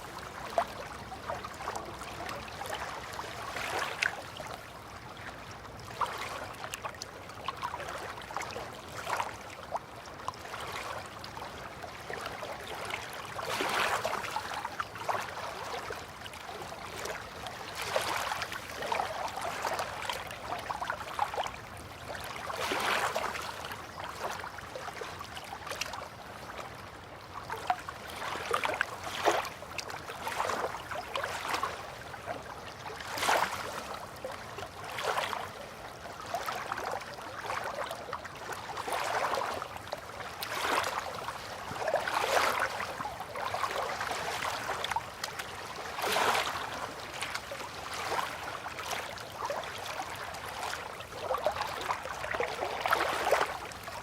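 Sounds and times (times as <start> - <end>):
river water lapping: 0.0 - 54.0.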